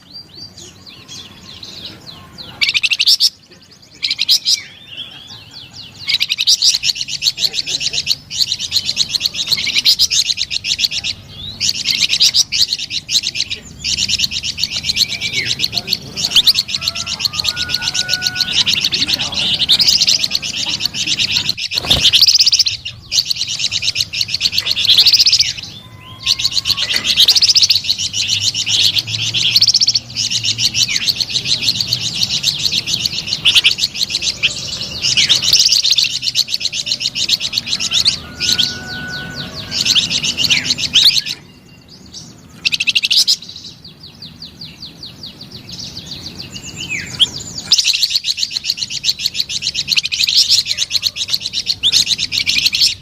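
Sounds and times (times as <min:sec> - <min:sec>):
songbird trilling song: 0:00.0 - 0:53.0.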